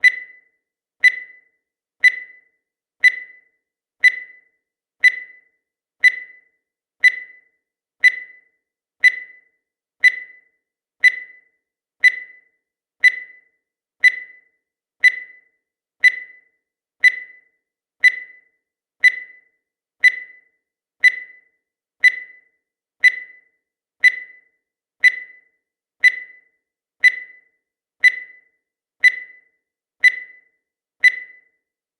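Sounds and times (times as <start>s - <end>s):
short high timer beeps: 0.0s - 21.4s, 26.0s - 31.5s.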